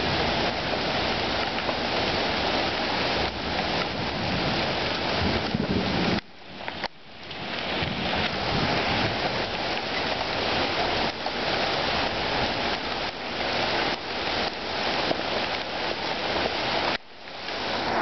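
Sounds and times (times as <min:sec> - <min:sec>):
heavy rain hiss: 0:00.0 - 0:18.0.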